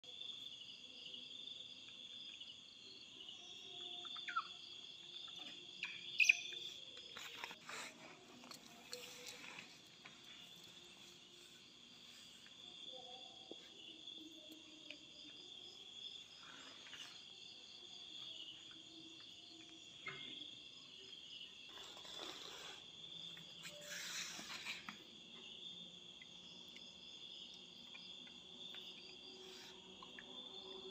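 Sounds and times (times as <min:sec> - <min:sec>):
insect chirring: 0:01.6 - 0:30.9.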